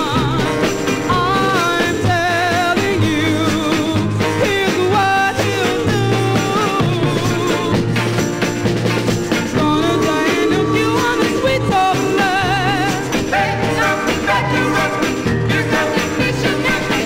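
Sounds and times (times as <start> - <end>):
steady bass line: 0.0 - 17.0
rhythm and blues record: 0.4 - 17.0.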